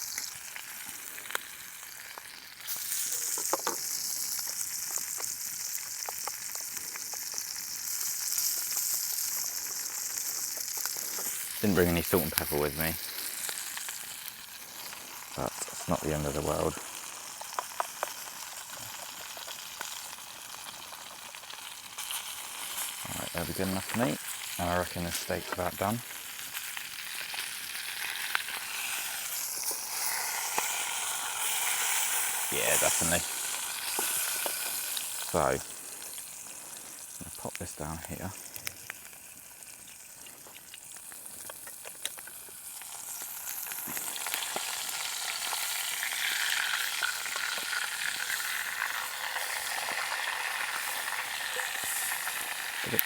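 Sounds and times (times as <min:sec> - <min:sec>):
steak sizzling in a pan: 0:00.0 - 0:53.0.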